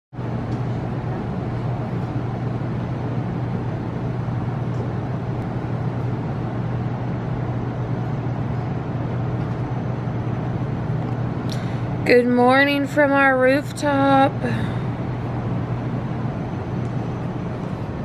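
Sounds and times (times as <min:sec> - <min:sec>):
constant low hum: 0:00.2 - 0:18.0
distant traffic: 0:00.2 - 0:18.0.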